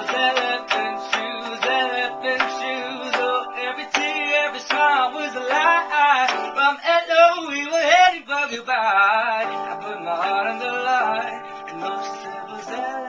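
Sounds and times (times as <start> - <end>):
electronic keyboard chords: 0.0 - 7.4, 8.9 - 13.0
man singing: 0.0 - 13.0.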